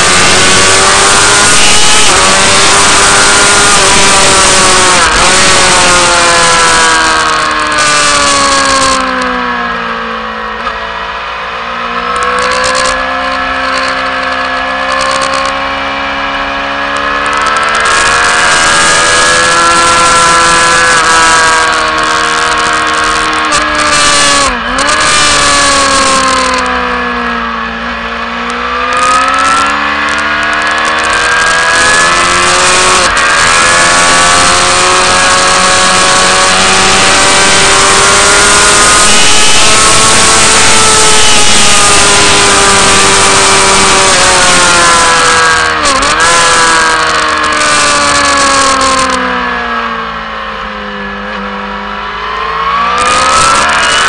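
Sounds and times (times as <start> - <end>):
racing motorcycle engine: 0.0 - 54.0.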